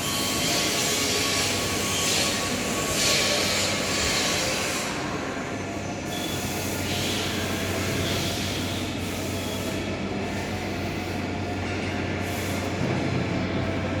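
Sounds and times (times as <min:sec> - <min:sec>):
industrial machinery humming and hissing: 0:00.0 - 0:14.0.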